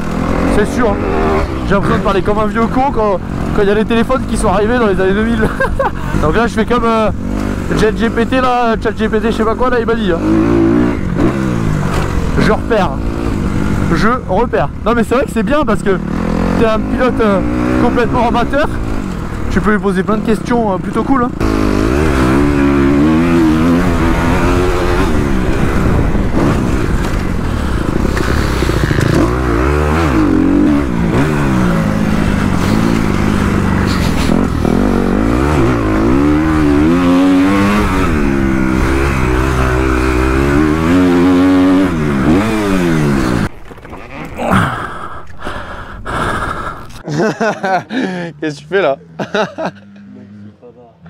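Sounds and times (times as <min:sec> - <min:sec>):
motocross bike engine revving: 0:00.0 - 0:44.8, 0:45.5 - 0:51.0.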